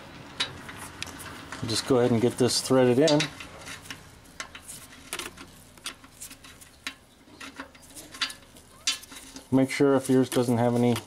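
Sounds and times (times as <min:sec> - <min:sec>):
light metallic clicks and scrapes: 0:00.3 - 0:11.0.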